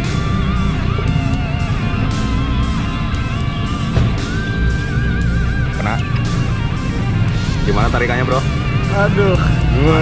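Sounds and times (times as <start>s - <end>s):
guitar-led rock music: 0.0s - 10.0s.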